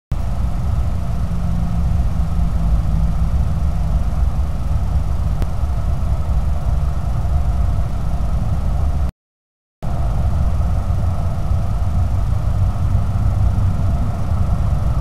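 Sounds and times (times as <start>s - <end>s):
steady low rumble: 0.1s - 9.1s, 9.8s - 15.0s
faint higher hum: 0.2s - 9.1s, 9.8s - 15.0s.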